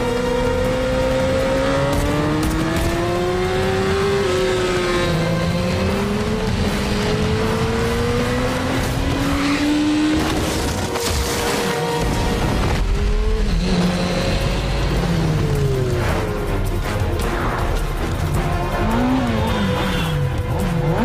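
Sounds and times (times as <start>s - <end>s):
motorcycle engines at high revs: 0.0s - 21.0s.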